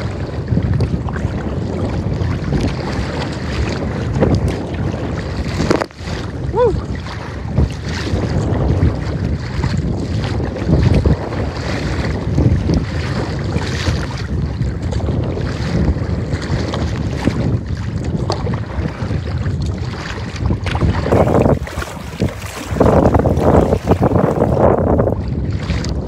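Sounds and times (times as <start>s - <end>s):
water slapping against boat: 0.0s - 26.0s
wind buffeting microphone: 0.0s - 26.0s.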